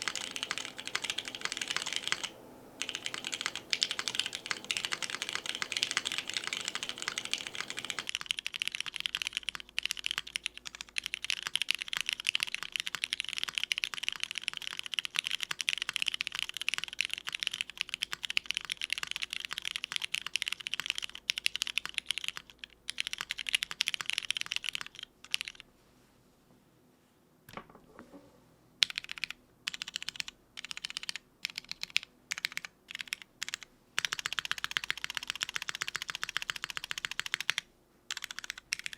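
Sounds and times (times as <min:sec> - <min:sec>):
mechanical keyboard typing: 0:00.0 - 0:25.6, 0:28.8 - 0:38.9.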